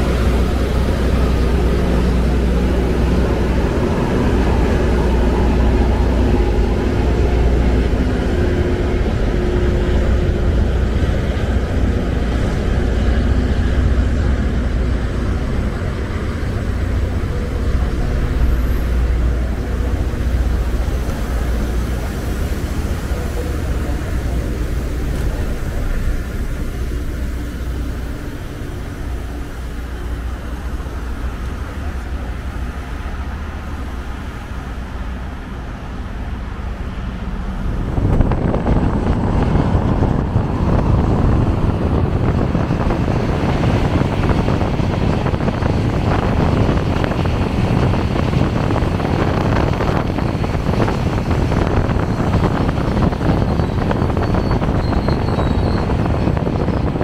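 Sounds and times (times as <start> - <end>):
loud rushing noise: 0.0 - 57.0
train low steady hum: 0.0 - 57.0.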